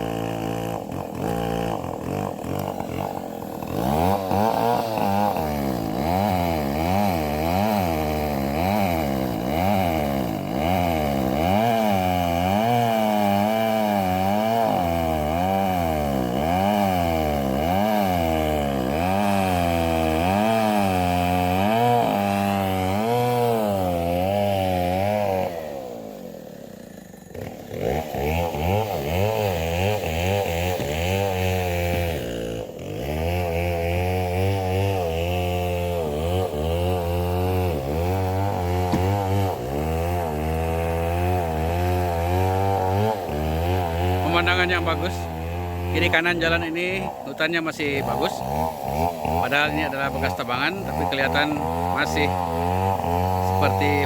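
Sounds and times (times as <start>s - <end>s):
chainsaw running: 0.0s - 54.0s.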